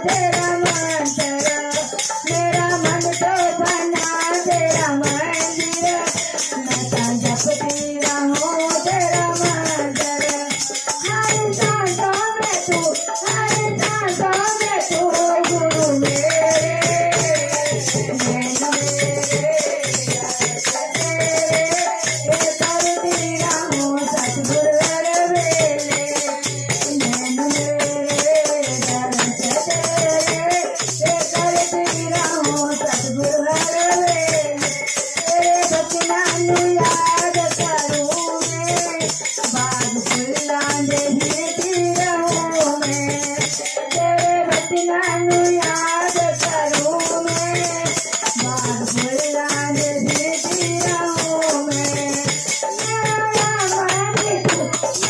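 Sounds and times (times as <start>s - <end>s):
barrel drum beat: 0.0s - 55.0s
hand cymbals jingling: 0.0s - 55.0s
women singing devotional song: 0.0s - 55.0s.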